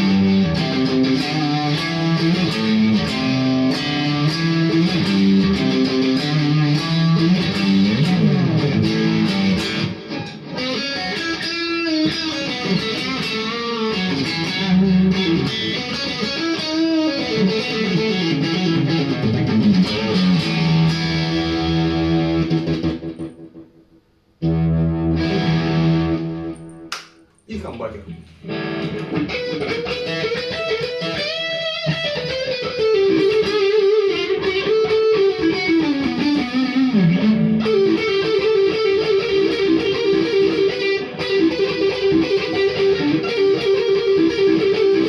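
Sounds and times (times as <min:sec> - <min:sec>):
electric guitar with delay: 0:00.0 - 0:23.5, 0:28.4 - 0:45.0.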